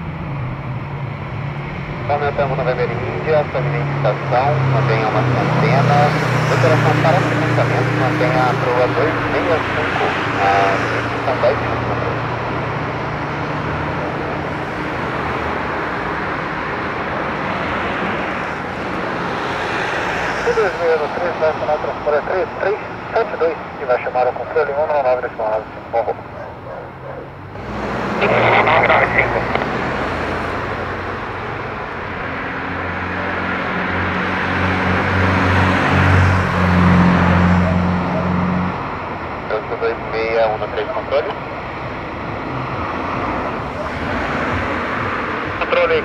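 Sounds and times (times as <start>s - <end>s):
turboprop engine drone: 0.0s - 46.0s.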